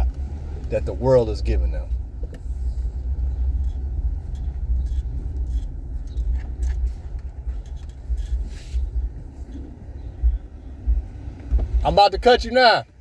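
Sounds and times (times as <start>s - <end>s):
faint clicks and rattles: 0.0s - 13.0s
vehicle rumbling on the move: 0.0s - 13.0s.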